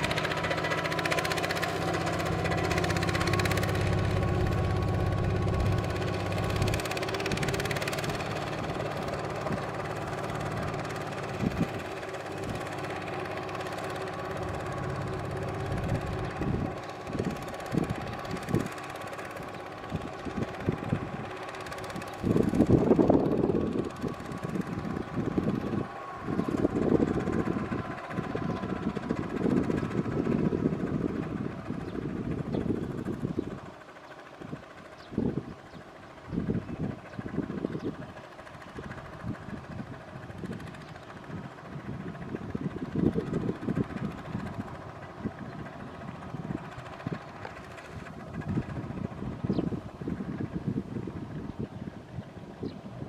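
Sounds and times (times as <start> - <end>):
tractor engine surging: 0.0 - 53.0.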